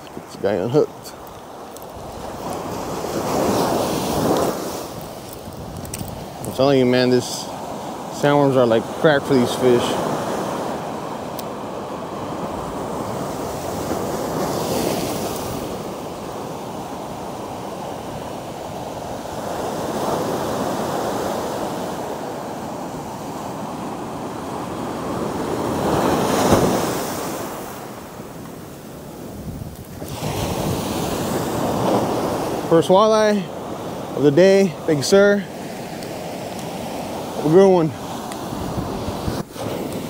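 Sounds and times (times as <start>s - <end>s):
ocean surf breaking on shore: 0.0s - 40.0s.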